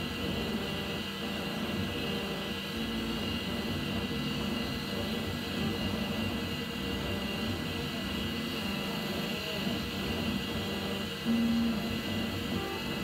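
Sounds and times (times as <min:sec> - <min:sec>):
fans whirring: 0:00.0 - 0:13.0
motors humming: 0:00.0 - 0:13.0.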